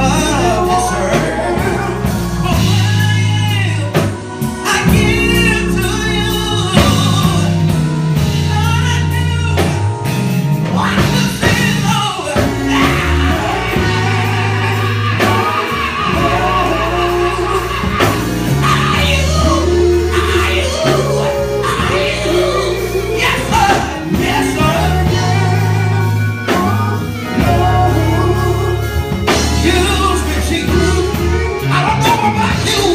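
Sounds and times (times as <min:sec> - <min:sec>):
band with bass and drums: 0:00.0 - 0:32.9
gospel singing: 0:00.0 - 0:32.9.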